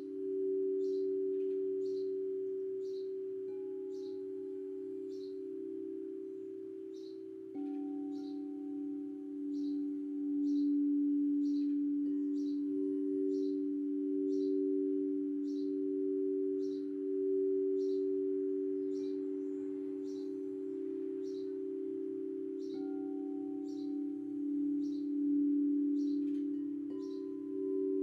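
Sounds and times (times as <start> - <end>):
bird chirping: 0.0 - 28.0
singing bowl drone: 0.0 - 28.0.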